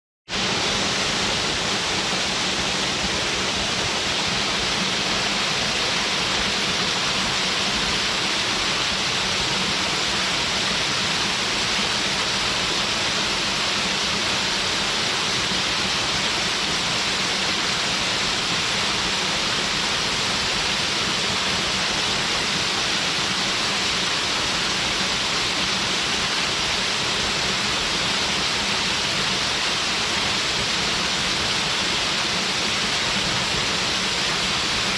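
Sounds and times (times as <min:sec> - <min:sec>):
waterfall splashing into pool: 0:00.4 - 0:34.9.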